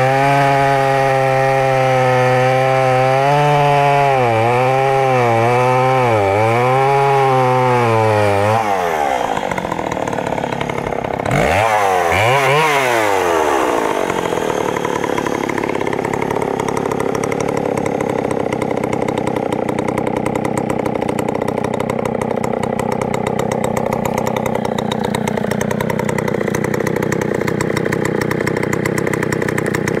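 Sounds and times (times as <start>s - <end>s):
chainsaw cutting log: 0.0s - 30.0s
chainsaw revving and idling: 0.0s - 30.0s.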